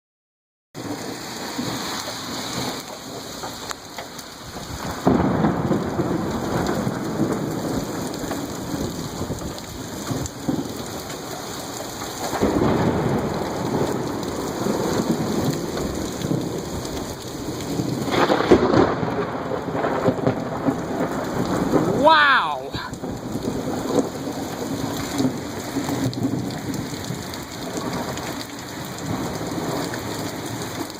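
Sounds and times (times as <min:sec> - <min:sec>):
heavy rain: 0:00.8 - 0:30.9
thunder rumbling: 0:00.8 - 0:30.9.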